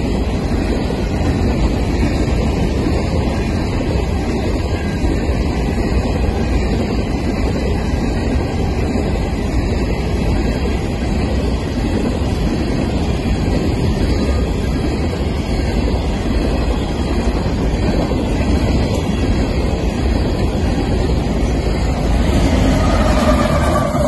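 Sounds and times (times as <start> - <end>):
train wheels rolling on rails: 0.0 - 24.0.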